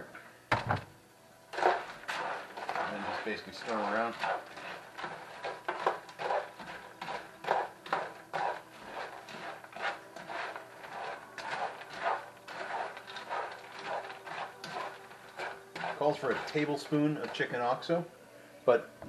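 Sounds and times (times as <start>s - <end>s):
spoon stirring croutons in a pan: 1.5s - 17.9s.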